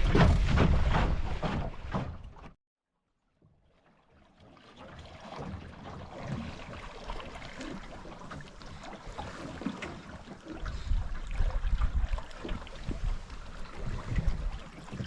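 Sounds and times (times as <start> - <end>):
water splashing against a boat hull: 0.0 - 2.6, 3.4 - 15.0.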